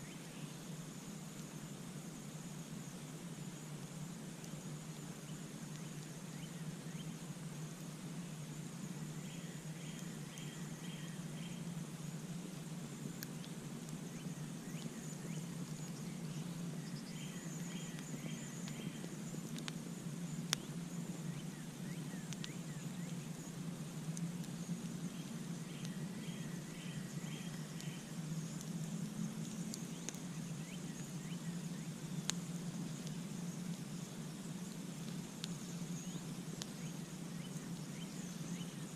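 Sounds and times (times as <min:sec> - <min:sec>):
campfire crackling and popping: 0:00.0 - 0:38.9
faint high insect buzz: 0:00.0 - 0:38.9.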